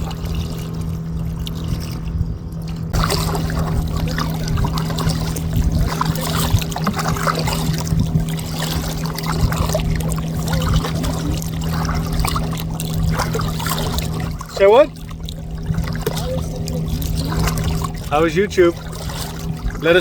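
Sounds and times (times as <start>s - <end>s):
steady low hum: 0.0s - 20.0s
water trickling and splashing: 0.0s - 20.0s.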